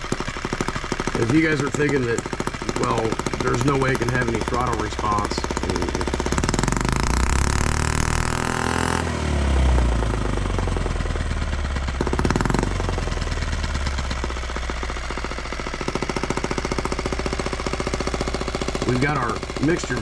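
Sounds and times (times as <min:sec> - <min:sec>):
small model engine running: 0:00.0 - 0:20.0.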